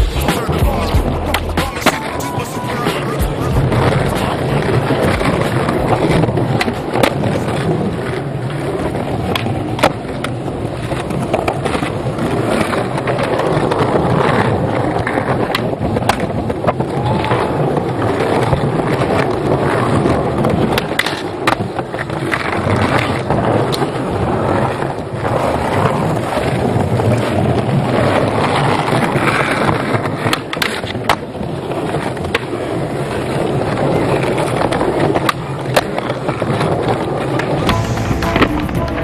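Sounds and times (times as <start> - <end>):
skateboard clacking: 0.0 - 39.0
skateboard wheels rolling on paving: 0.0 - 39.0.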